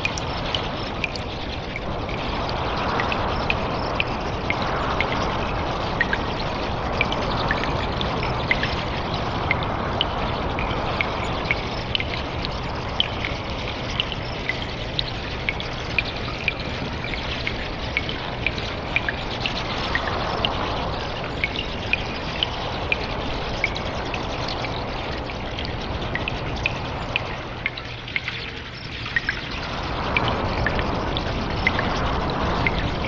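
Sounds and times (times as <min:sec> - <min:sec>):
sharp water drips: 0:00.0 - 0:33.0
trickle of running water: 0:00.0 - 0:33.0.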